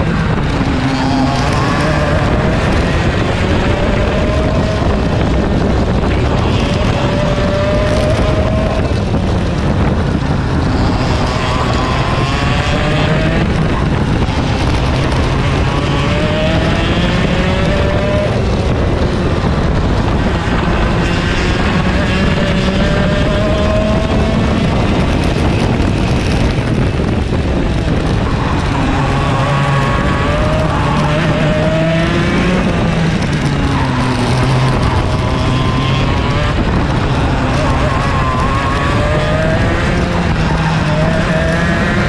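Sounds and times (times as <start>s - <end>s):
kart engine accelerating: 0.0s - 42.0s.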